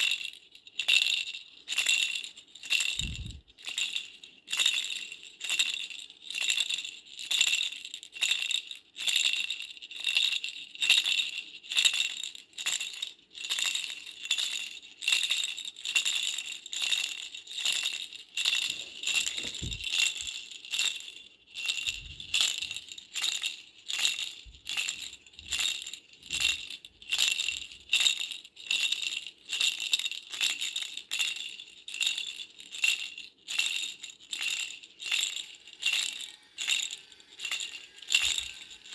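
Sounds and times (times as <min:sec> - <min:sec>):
toy rattle jingling: 0:00.0 - 0:38.9.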